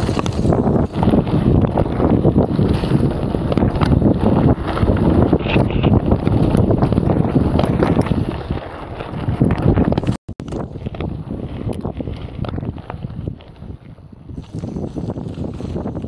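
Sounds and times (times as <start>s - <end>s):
bike clattering on rough trail: 0.0s - 16.0s
wind buffeting microphone: 0.0s - 16.0s.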